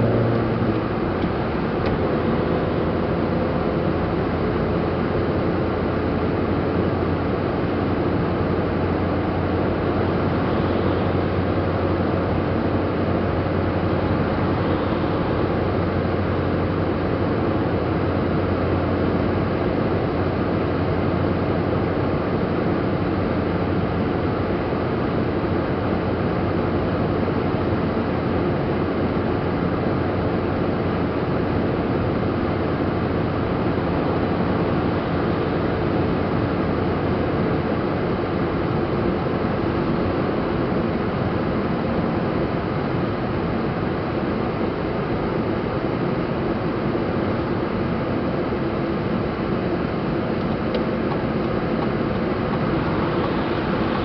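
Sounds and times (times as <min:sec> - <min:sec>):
low engine hum: 0:00.0 - 0:54.0
tyre roar on asphalt: 0:00.0 - 0:54.0.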